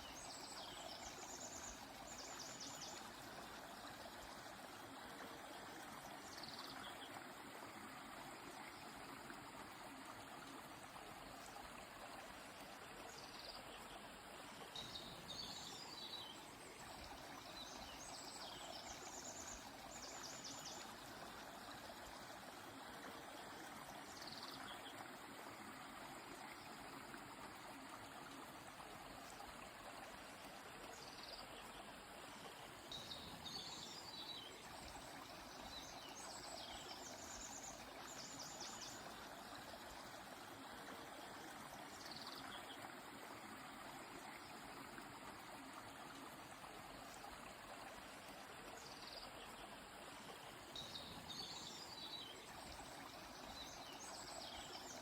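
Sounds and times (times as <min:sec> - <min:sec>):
river flowing softly: 0:00.0 - 0:55.0.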